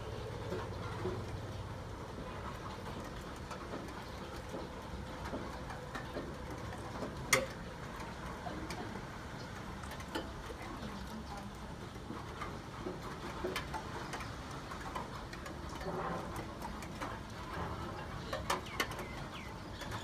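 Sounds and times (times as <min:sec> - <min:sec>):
drips and taps: 0:02.5 - 0:20.0.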